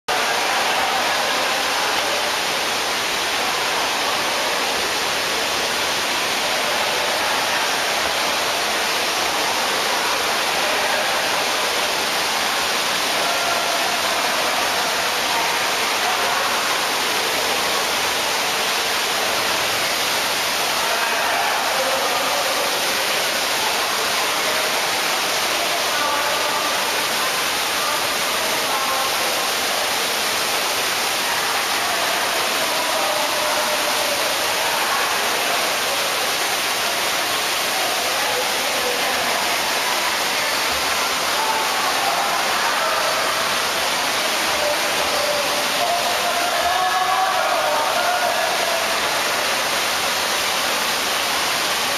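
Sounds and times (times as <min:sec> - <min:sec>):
distant indoor waterfall rushing: 0:00.1 - 0:51.9
faint voices: 0:00.1 - 0:51.9.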